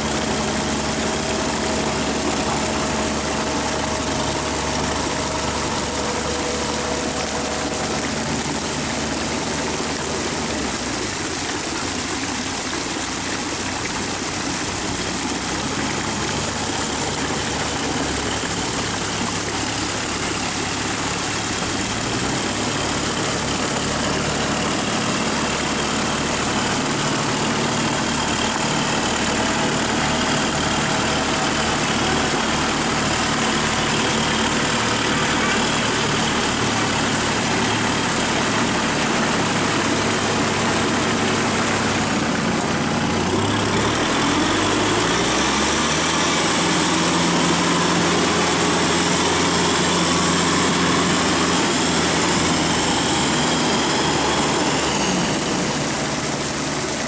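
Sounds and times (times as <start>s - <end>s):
tractor diesel engine running: 0.0s - 57.0s
wheels churning mud: 0.0s - 57.0s.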